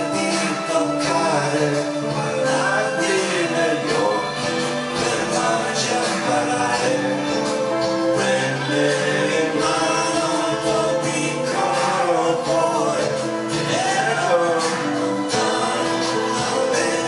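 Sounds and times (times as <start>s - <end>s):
keyboard accompaniment: 0.0s - 17.0s
man singing pop ballad: 0.0s - 17.0s
steady beat: 0.0s - 17.0s
tambourine-like percussion: 0.0s - 17.0s.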